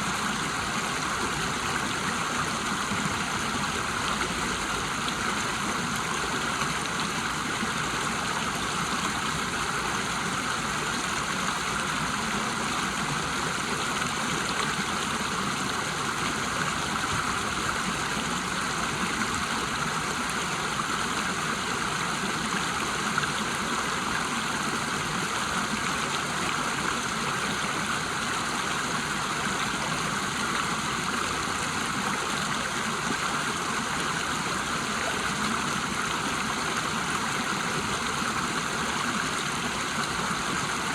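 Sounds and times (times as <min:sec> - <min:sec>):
water rushing over waterfall: 0:00.0 - 0:40.9.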